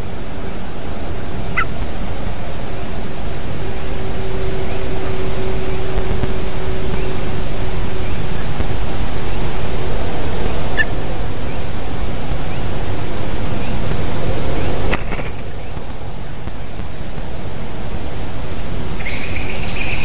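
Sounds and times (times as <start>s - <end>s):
loud rushing noise: 0.0s - 20.0s
low hum: 0.0s - 20.0s.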